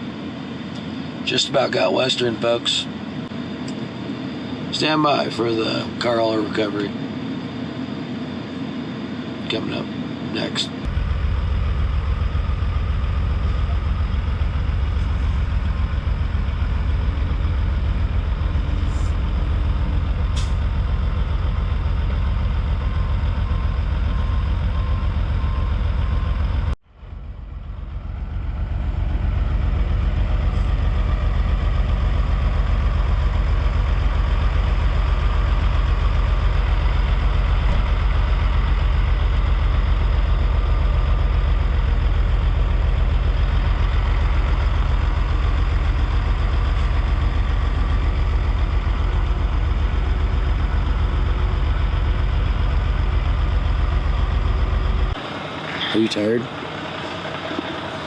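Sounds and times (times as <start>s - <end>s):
diesel trucks idling: 0.0s - 58.0s.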